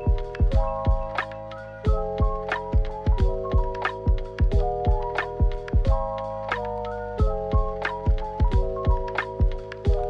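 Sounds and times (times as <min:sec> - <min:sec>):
soft drum beat: 0:00.0 - 0:06.2, 0:07.2 - 0:10.0
sustained keyboard chords: 0:00.0 - 0:10.0.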